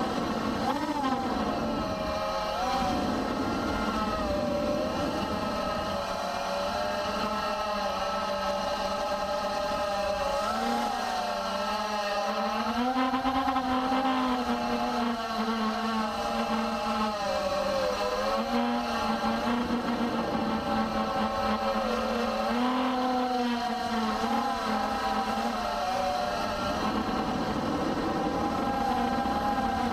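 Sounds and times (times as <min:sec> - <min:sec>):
electric motors and propellers whining: 0:00.0 - 0:29.9.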